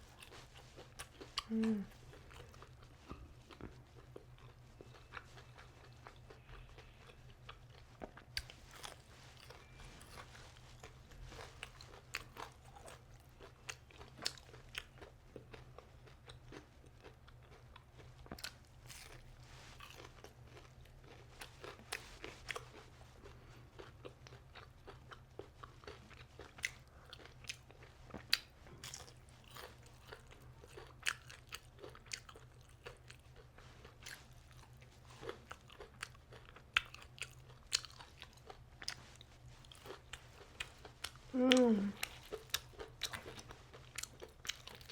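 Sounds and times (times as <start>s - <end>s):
crunching and chewing fried food: 0.0s - 44.9s
steady low hum: 0.0s - 44.9s.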